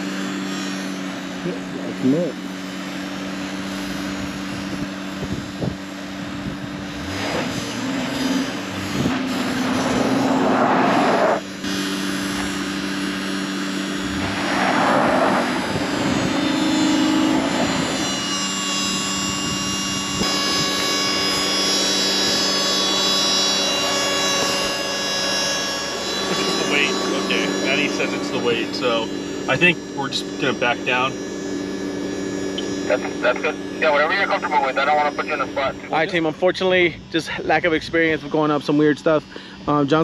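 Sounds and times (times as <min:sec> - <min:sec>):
steady hum: 0:00.0 - 0:40.0
truck engine climbing hill: 0:00.0 - 0:40.0.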